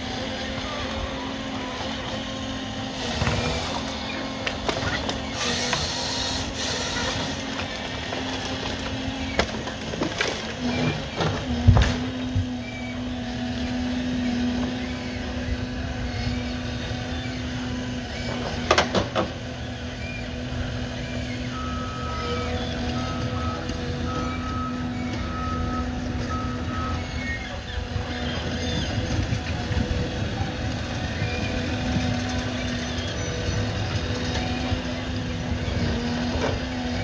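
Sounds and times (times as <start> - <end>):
diesel engine and hydraulics droning: 0.0 - 37.0.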